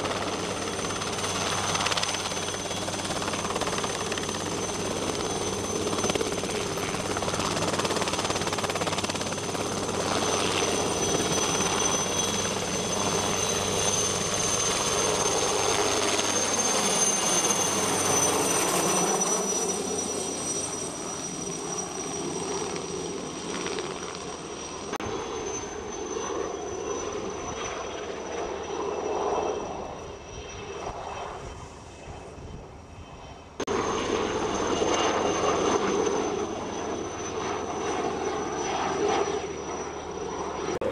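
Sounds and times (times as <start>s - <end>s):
helicopter hovering: 0.0s - 40.9s.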